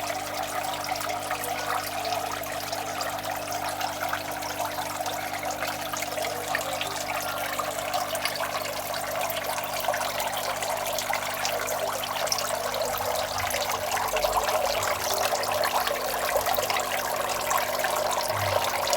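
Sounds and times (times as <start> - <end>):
water trickling into tank: 0.0 - 18.9.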